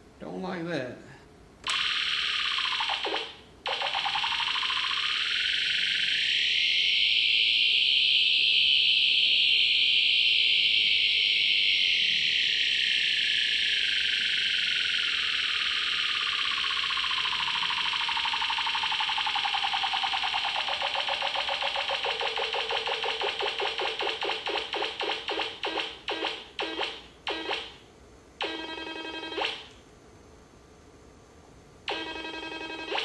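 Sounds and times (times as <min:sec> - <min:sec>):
buzzing tone from speaker: 0:01.7 - 0:29.8, 0:31.8 - 0:33.0.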